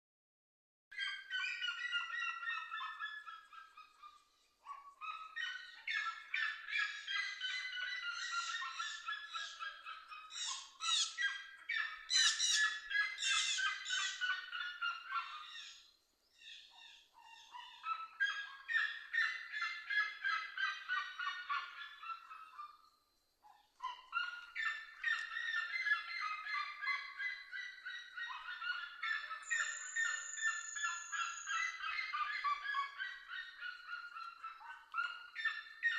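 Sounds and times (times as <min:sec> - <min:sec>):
bird harsh yelping calls: 0:01.0 - 0:22.8, 0:23.4 - 0:35.9.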